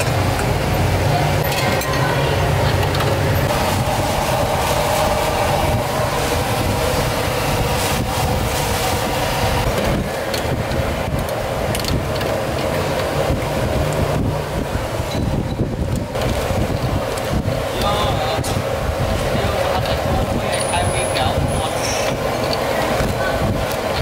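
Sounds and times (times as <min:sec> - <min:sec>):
low rumble and hiss of stall: 0:00.0 - 0:24.0.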